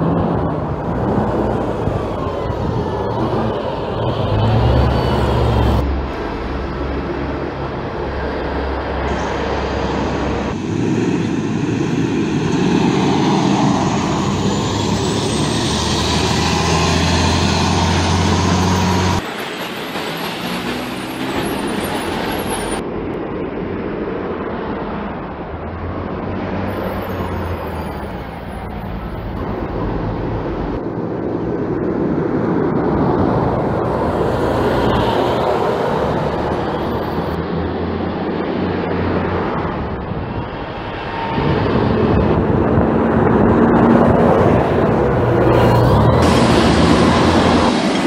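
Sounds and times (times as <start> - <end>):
buses driving past: 0.0 - 48.0
street traffic noise: 0.0 - 48.0.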